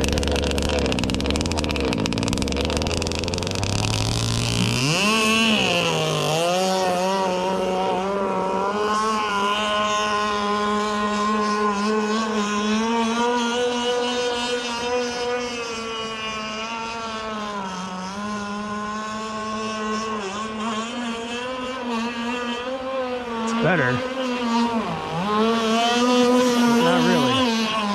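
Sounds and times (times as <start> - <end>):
two-stroke boat engine at high revs: 0.0 - 27.9.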